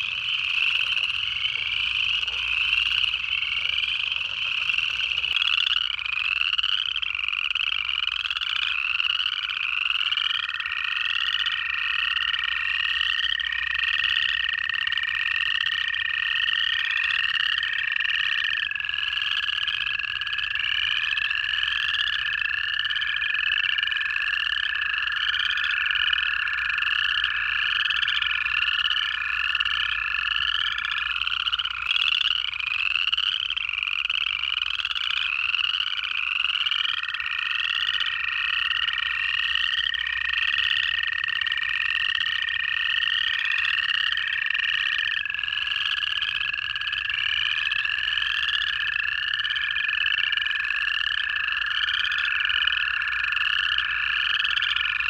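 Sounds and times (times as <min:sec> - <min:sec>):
frogs giving rising trills: 0:00.0 - 0:55.0
toads giving low trills: 0:00.0 - 0:55.0.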